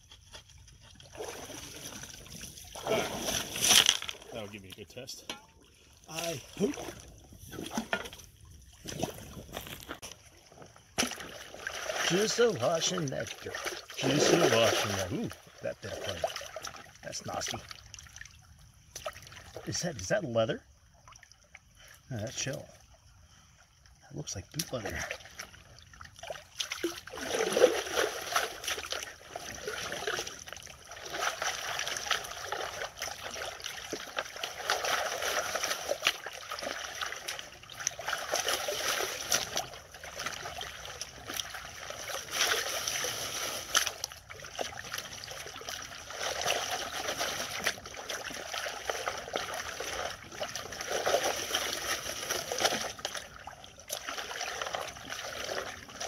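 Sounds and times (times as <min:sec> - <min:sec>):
water sloshing in a gold pan: 0:00.0 - 0:56.0.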